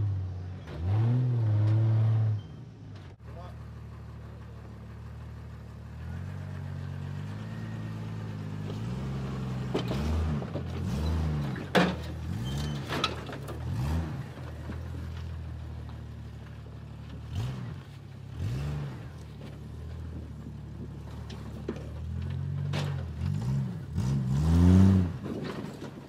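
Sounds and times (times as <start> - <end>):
engine revving at low speed: 0.0 - 2.4, 3.6 - 12.8, 13.5 - 14.9, 17.0 - 21.3, 22.0 - 25.6.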